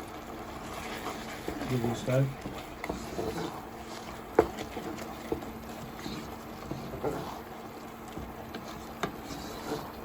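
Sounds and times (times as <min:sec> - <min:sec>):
low cooking noise: 0:00.0 - 0:10.0
spoon stirring thick risotto: 0:00.0 - 0:10.0.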